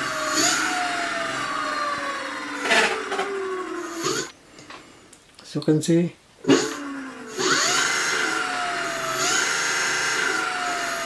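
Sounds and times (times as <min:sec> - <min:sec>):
electric motor whining: 0:00.0 - 0:04.4, 0:06.5 - 0:11.0.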